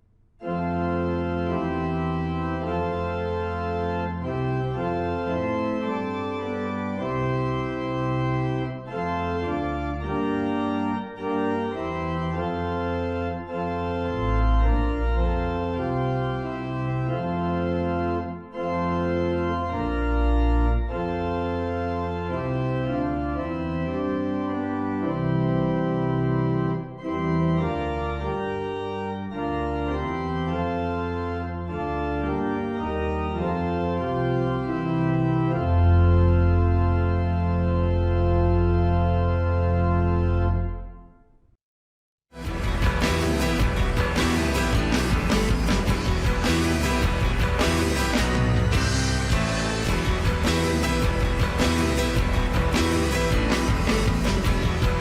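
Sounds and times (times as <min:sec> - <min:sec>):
organ playing slow chords: 0:00.0 - 0:41.3, 0:42.4 - 0:55.0.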